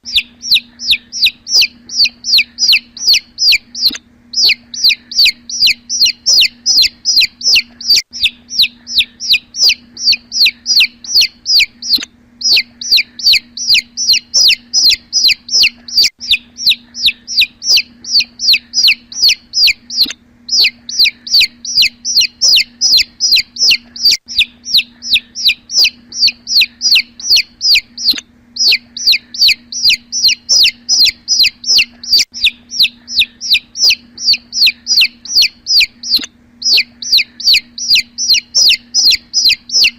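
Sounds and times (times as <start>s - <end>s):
chick peeping: 0.0s - 39.9s.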